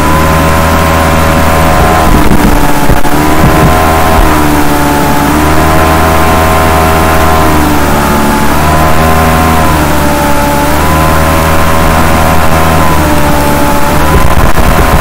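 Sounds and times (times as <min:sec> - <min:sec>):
constant low hum: 0:00.0 - 0:15.0
motor running: 0:00.0 - 0:15.0.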